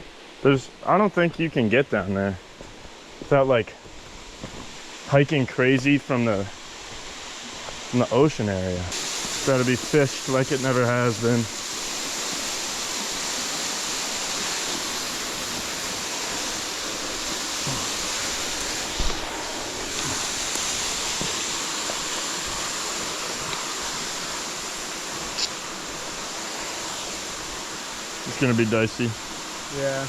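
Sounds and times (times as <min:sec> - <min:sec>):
waterfall rushing: 0:03.8 - 0:30.0.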